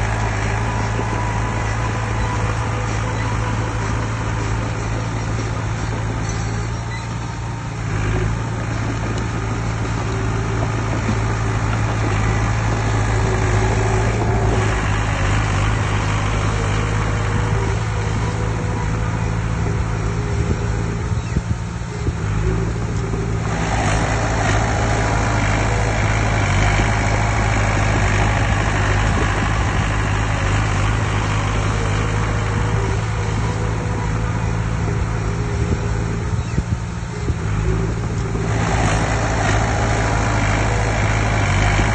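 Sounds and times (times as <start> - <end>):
diesel machinery engine drone: 0.0 - 41.9.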